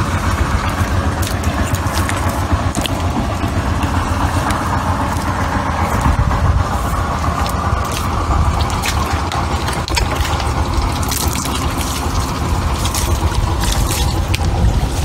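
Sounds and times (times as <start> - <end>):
engine-like drone: 0.0 - 15.0.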